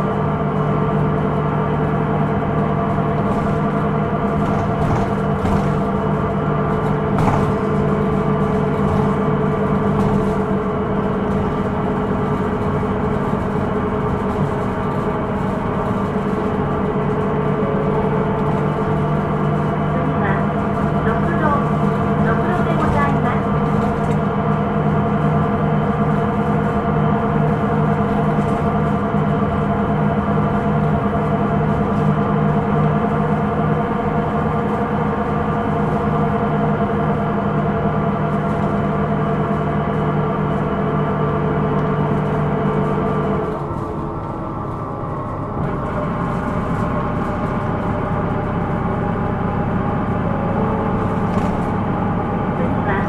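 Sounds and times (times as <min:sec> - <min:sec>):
bus engine drone: 0:00.0 - 0:53.0.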